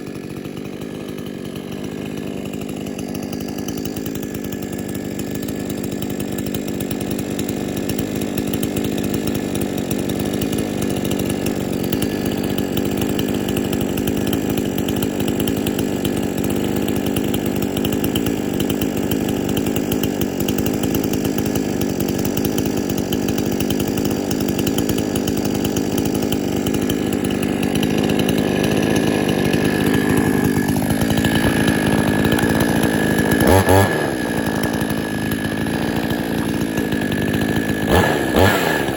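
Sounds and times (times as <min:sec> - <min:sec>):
chainsaw idling: 0:00.0 - 0:38.9.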